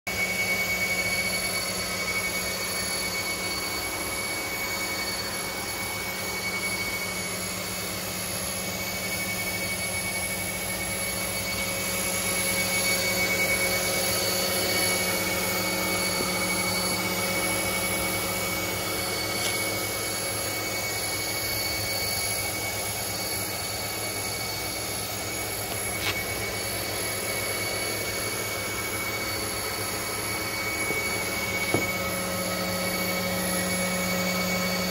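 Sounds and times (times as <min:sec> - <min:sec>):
machine hum with high whine: 0:00.1 - 0:34.9.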